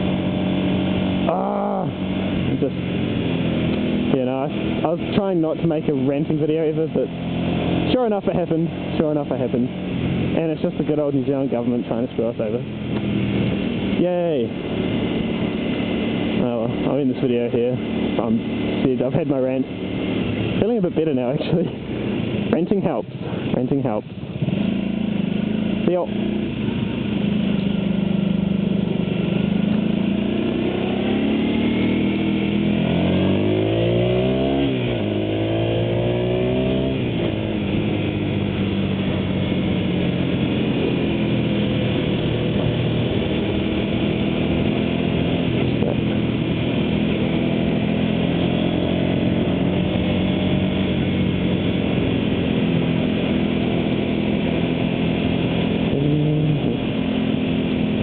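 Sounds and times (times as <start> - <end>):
motorcycle engine pulling hard: 0.0 - 58.0.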